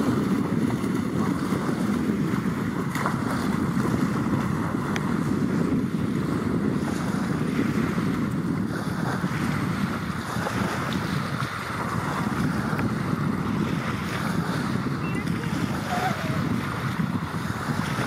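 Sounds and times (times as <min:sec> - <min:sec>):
small waves on sandy shore: 0:00.0 - 0:18.0
wind noise on microphone: 0:00.0 - 0:18.0.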